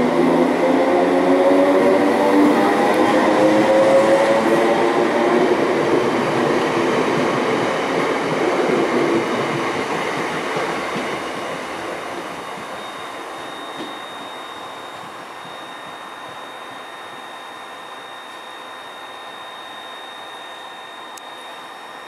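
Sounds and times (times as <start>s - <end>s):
train running past: 0.0s - 19.8s
train motor whine: 0.0s - 22.0s.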